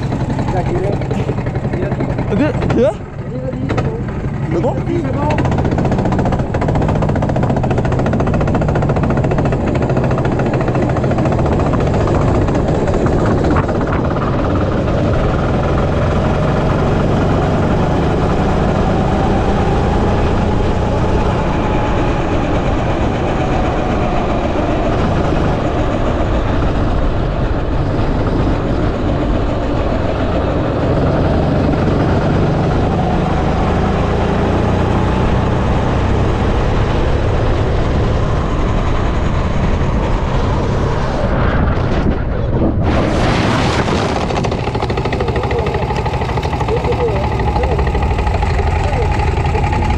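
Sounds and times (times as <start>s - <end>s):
go-kart engine running: 0.0s - 49.9s.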